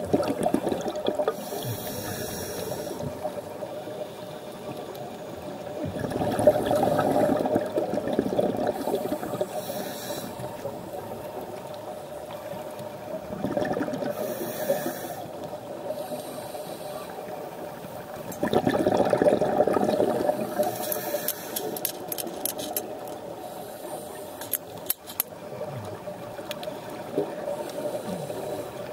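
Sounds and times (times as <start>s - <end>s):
muffled underwater water noise: 0.0s - 28.9s.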